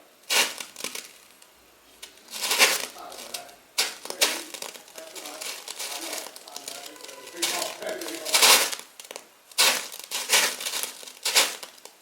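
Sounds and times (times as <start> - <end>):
bubble wrap crackling and popping: 0.2 - 12.0.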